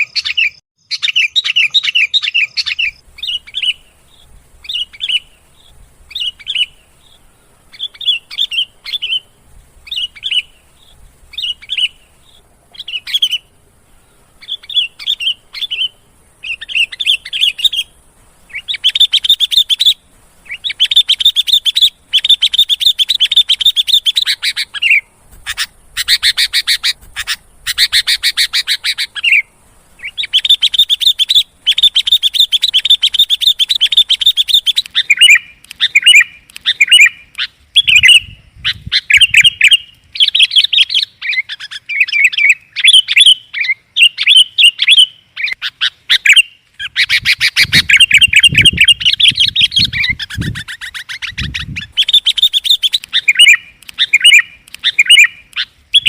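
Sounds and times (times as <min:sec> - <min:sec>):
bulbul chattering calls: 0:00.0 - 0:56.0.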